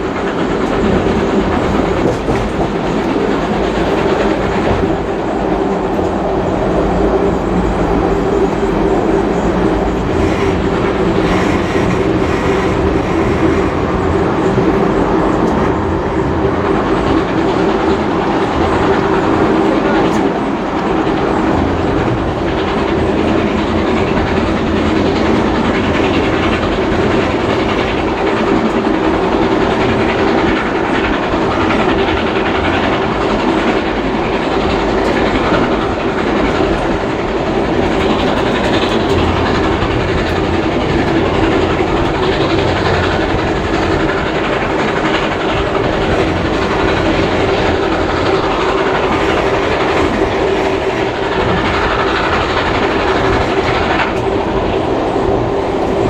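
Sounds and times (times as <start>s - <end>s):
train carriage rumble: 0.0s - 56.0s
wheels clacking over rail joints: 0.0s - 56.0s.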